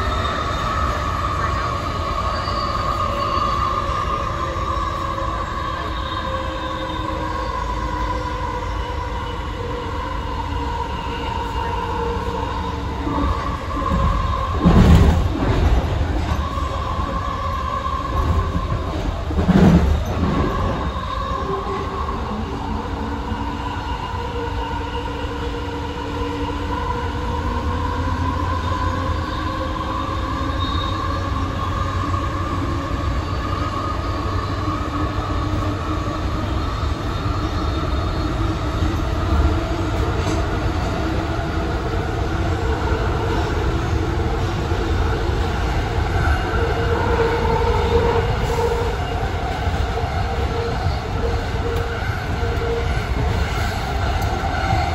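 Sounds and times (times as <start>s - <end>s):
train running noise with rising whine: 0.0s - 54.9s.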